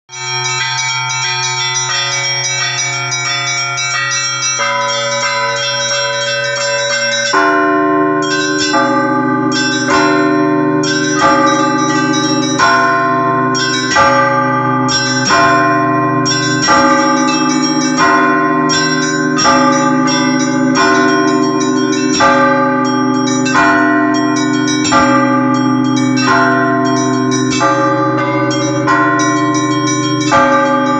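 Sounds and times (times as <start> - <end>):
large bell hum: 0.1 - 30.9
small bells ringing quickly: 0.1 - 30.9
heavy bell strokes: 0.2 - 30.9.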